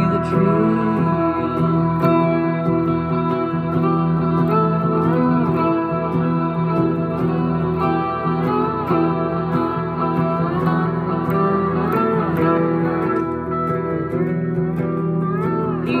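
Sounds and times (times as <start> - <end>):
guitar with gliding notes: 0.0 - 16.0.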